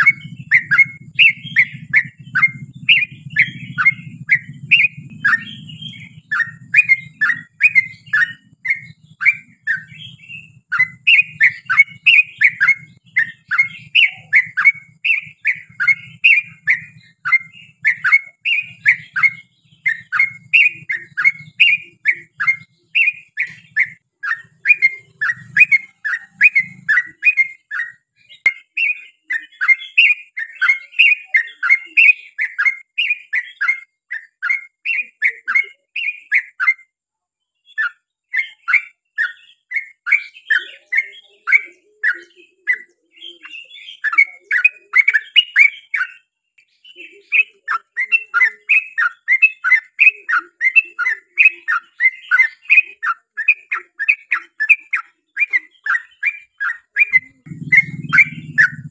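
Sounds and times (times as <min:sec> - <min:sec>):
bird singing sweeping notes: 0:00.0 - 0:36.8, 0:37.6 - 0:58.9.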